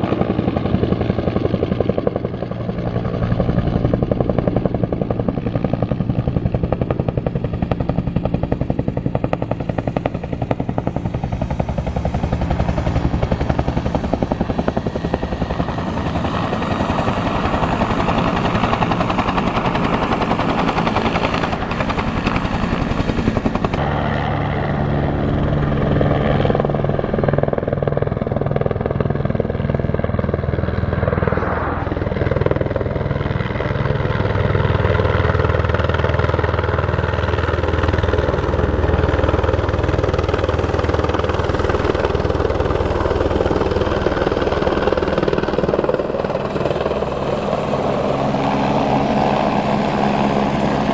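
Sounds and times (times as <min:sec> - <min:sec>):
helicopter climbing away: 0:00.0 - 0:50.9
helicopter rotor beating: 0:00.0 - 0:50.9.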